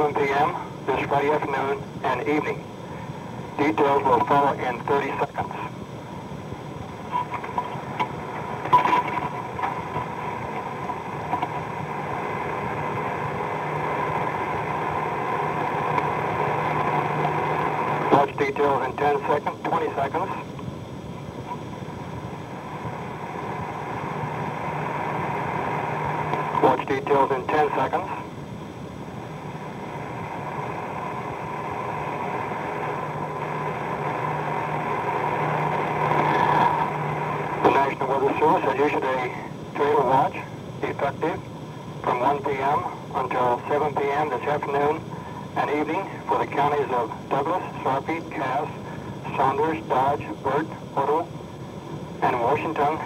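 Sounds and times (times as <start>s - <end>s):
radio crackles: 0.0s - 5.8s, 6.5s - 53.0s
radio hiss and hum: 0.0s - 53.0s
thin steady whine: 0.0s - 53.0s.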